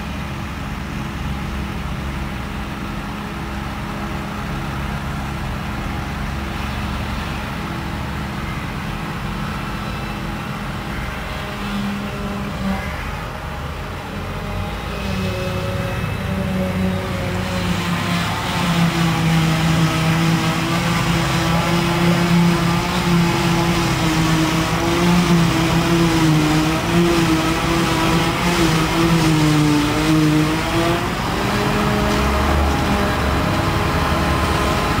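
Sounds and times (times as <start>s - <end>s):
harvester engine drone: 0.0s - 35.0s.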